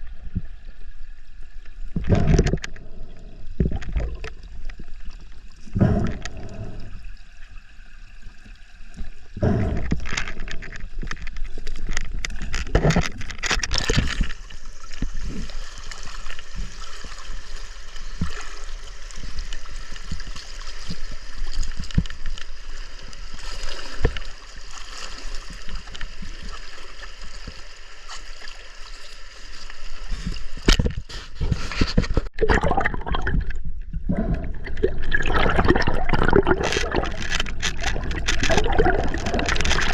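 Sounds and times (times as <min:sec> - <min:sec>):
river water gurgling and splashing: 0:00.0 - 0:39.9.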